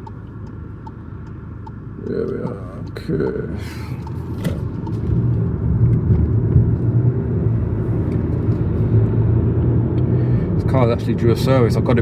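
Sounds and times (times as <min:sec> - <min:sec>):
car engine and tyres drone: 0:00.0 - 0:12.0.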